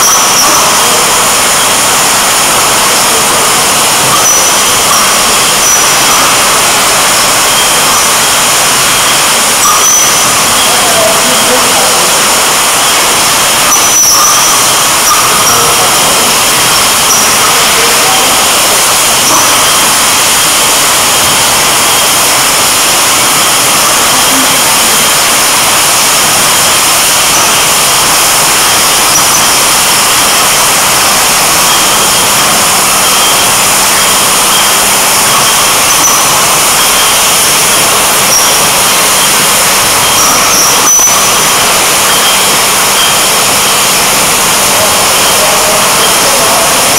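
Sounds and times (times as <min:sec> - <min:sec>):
bottling machine running: 0:00.0 - 0:46.9.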